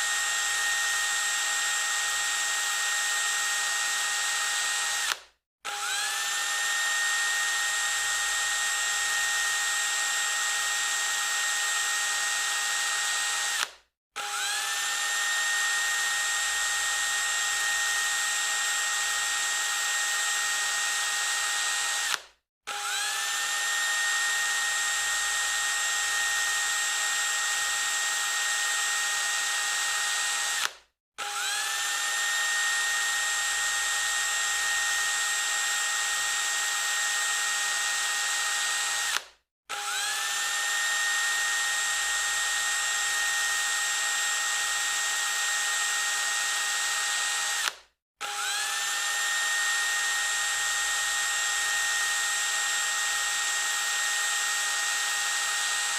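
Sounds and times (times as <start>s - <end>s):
electric drill whining: 0.0s - 55.9s.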